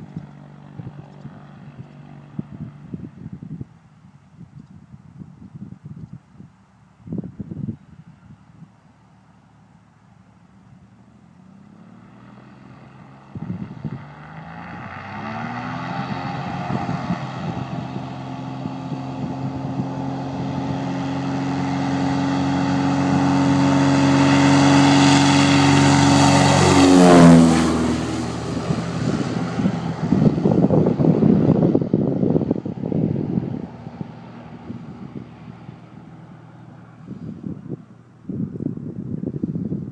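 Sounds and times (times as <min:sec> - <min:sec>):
wind gusts on microphone: 0:00.0 - 0:08.9, 0:11.9 - 0:39.9
propeller plane engine: 0:00.0 - 0:39.9.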